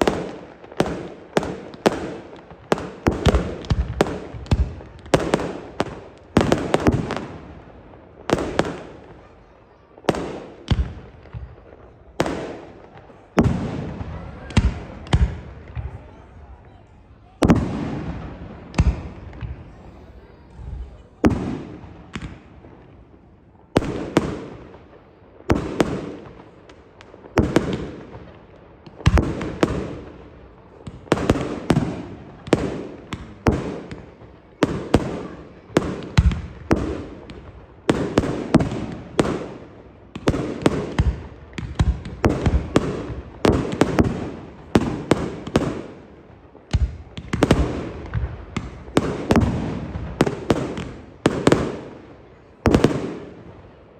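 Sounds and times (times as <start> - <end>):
fireworks bangs with rumble: 0.0 - 53.6.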